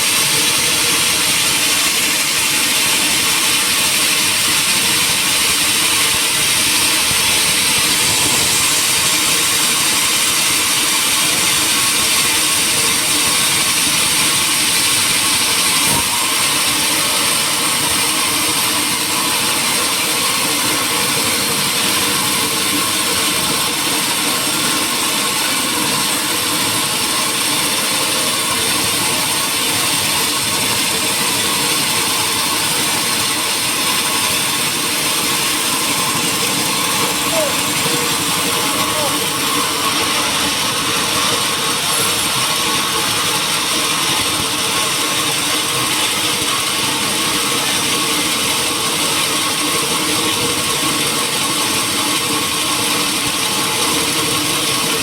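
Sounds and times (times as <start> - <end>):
woodworking machinery running: 0.0 - 55.0.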